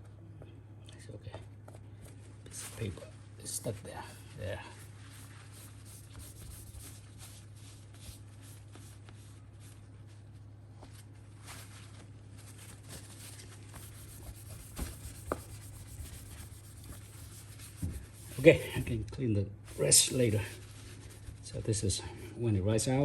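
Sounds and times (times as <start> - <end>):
low steady hum: 0.0 - 23.0
paper towel scuffing strokes: 2.0 - 19.0, 19.7 - 21.8.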